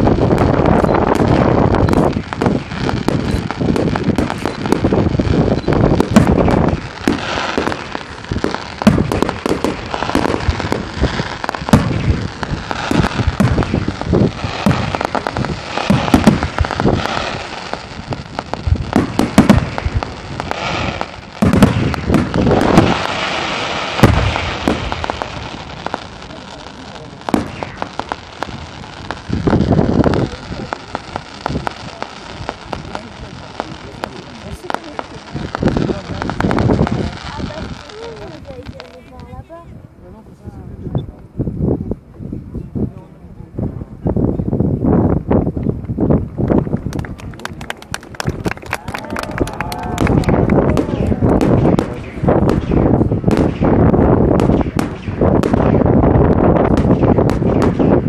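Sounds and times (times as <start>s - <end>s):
firework bangs: 0.0s - 39.6s, 44.9s - 58.0s
firework crackling: 0.0s - 41.0s, 44.2s - 58.0s.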